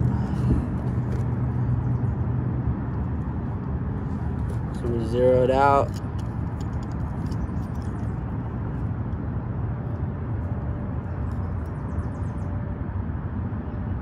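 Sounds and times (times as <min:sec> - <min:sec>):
low outdoor background rumble: 0:00.0 - 0:14.0.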